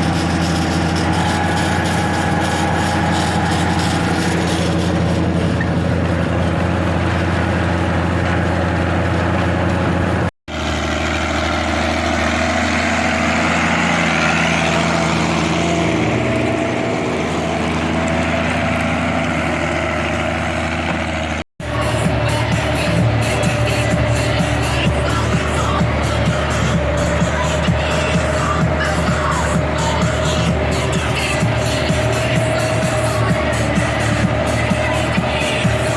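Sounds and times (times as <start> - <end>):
tractor diesel engine droning: 0.0 - 35.9.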